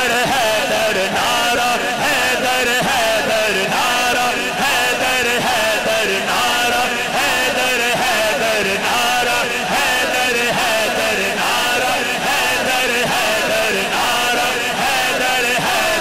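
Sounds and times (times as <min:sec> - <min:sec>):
man chanting amplified: 0:00.0 - 0:16.0.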